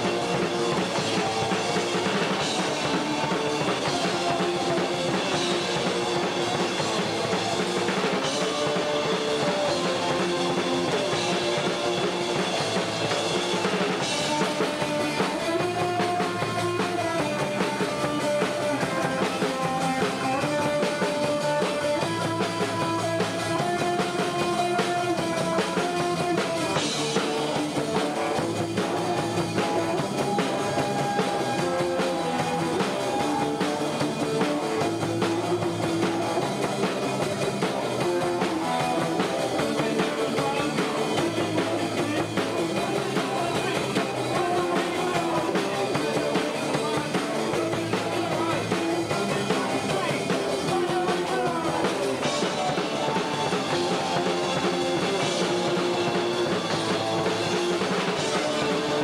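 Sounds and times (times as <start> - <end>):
drum kit with cymbals pounding: 0.0 - 59.0
electric guitar chords: 0.0 - 59.0
punk band playing live: 0.0 - 59.0.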